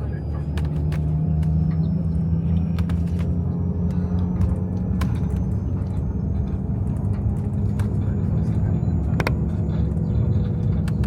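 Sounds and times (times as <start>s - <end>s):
vehicle rumble inside cabin: 0.0s - 11.0s.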